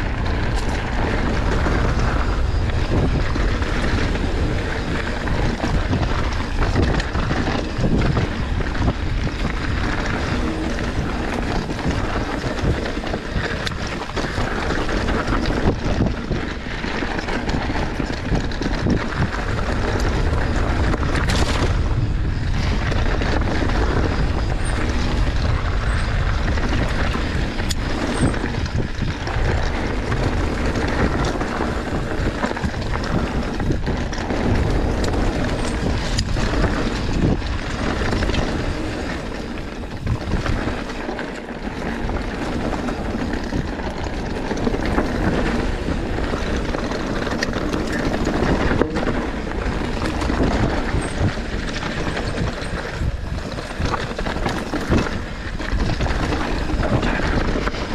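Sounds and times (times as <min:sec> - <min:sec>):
bike knocks and rattles: 0:00.0 - 0:57.9
tyres rolling over dirt and rocks: 0:00.0 - 0:57.9
wind buffeting microphone: 0:00.0 - 0:57.9.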